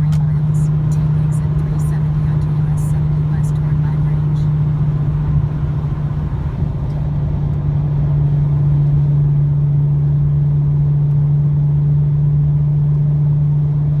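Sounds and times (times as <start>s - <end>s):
car exhaust droning: 0.0s - 14.0s
road and tyre rumble: 0.0s - 14.0s.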